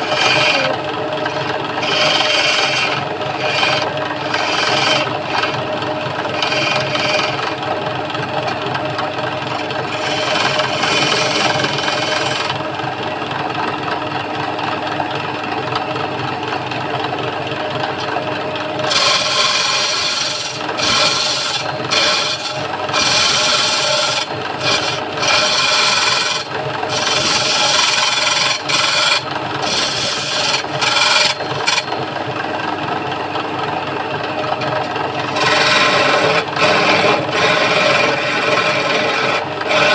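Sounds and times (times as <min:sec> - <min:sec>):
lathe motor humming: 0:00.0 - 0:13.5, 0:14.7 - 0:39.9
chisel cutting spinning wood: 0:00.0 - 0:39.9.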